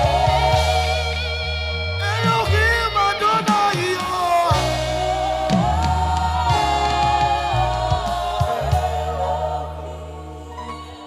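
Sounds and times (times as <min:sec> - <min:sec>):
bass line: 0:00.0 - 0:11.0
voices singing long notes: 0:00.0 - 0:11.0.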